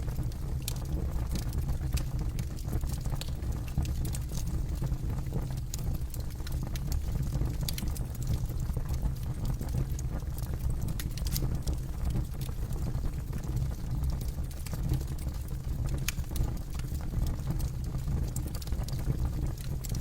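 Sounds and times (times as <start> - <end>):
burning wood crackling and popping: 0.0 - 20.0.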